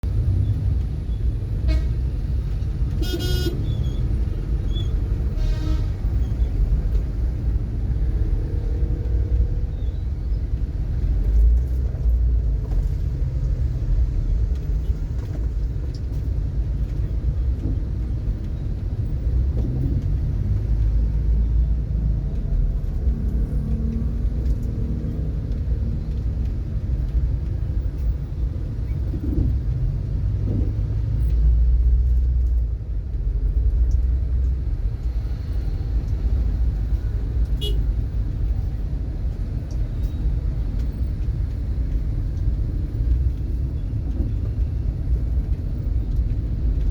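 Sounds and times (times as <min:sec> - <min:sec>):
vehicle rumble in traffic: 0:00.0 - 0:46.9.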